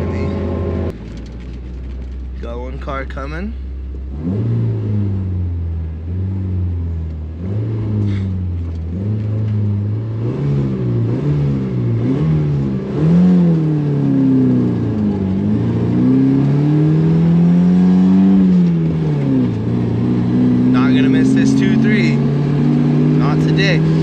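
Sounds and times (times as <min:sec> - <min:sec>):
engine revving under acceleration: 0:00.0 - 0:01.0, 0:03.9 - 0:24.0.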